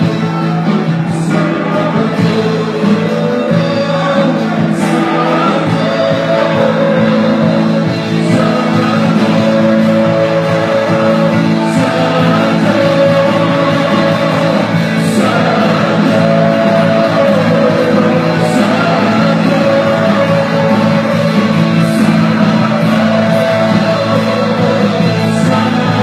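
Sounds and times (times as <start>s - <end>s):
band playing worship music: 0.0s - 26.0s
voices singing: 0.0s - 26.0s.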